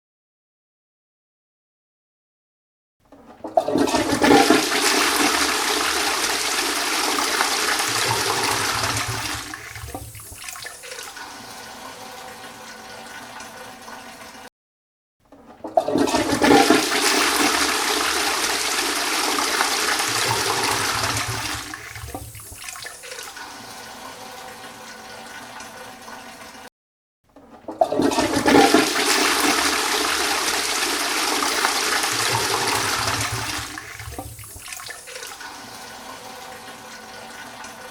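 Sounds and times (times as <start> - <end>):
toilet flushing: 3.2 - 14.5, 15.4 - 26.7, 27.5 - 37.9
water running: 3.4 - 14.5, 15.6 - 26.7, 27.7 - 37.9.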